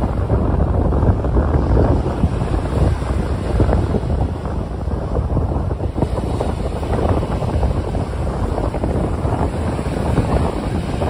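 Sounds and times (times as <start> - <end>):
waves breaking on a beach: 0.0 - 11.0
wind buffeting microphone: 0.0 - 11.0.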